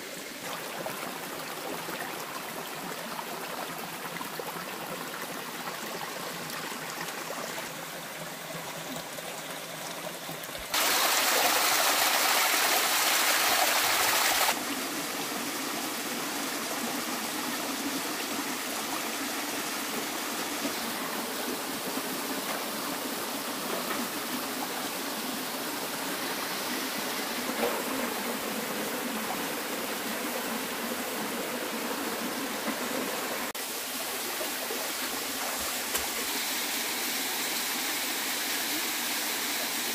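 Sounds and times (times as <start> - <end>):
forest stream rushing over rocks: 0.0 - 39.9.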